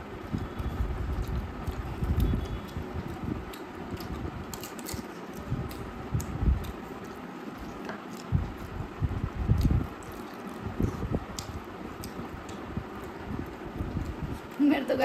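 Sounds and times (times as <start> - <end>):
people chewing: 0.4 - 8.8, 9.5 - 14.6.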